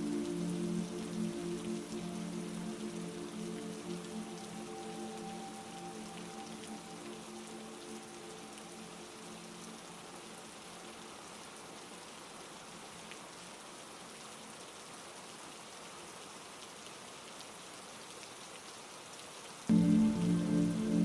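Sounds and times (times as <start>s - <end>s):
heavy rain falling: 0.0s - 17.9s, 19.7s - 21.0s.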